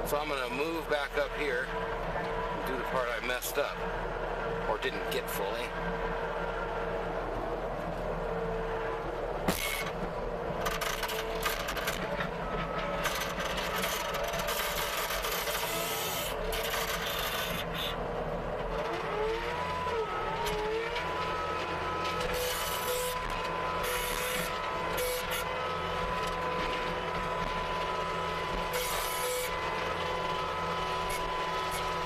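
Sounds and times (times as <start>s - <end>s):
diesel engine and hydraulics: 0.0s - 32.0s
steady whine: 0.0s - 32.0s.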